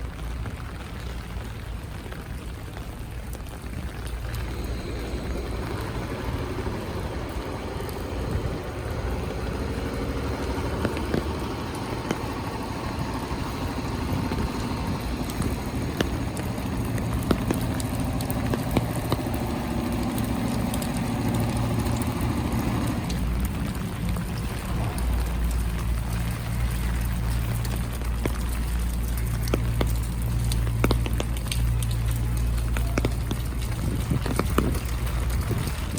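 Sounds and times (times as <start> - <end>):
motor traffic: 0.0 - 35.9
rain hissing: 0.0 - 35.9
sharp ticks: 4.0 - 35.9.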